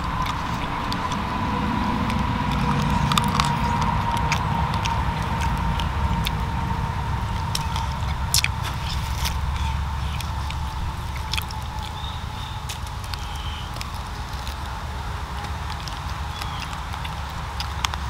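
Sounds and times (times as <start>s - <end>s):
sharp clicks and crackles: 0.0s - 18.0s
steady low rumble: 0.0s - 18.0s.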